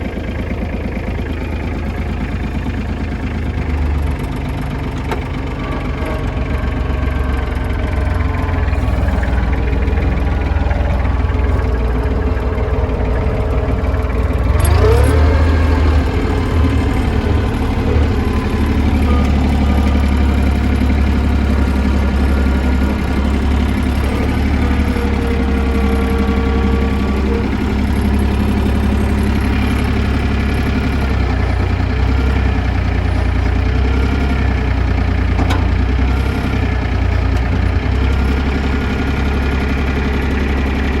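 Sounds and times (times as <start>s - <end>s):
diesel engine running: 0.0s - 41.0s
whining tone: 0.0s - 41.0s.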